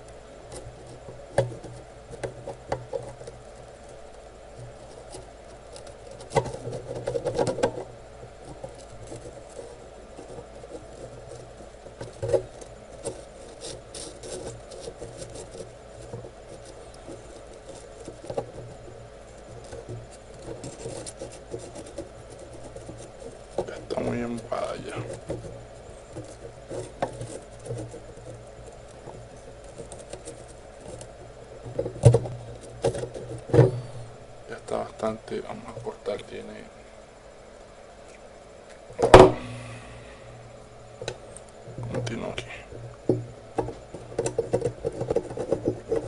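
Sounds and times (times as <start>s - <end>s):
soldering iron scratching on braid: 0.0s - 36.7s, 40.9s - 46.0s
low steady hum: 0.0s - 46.0s.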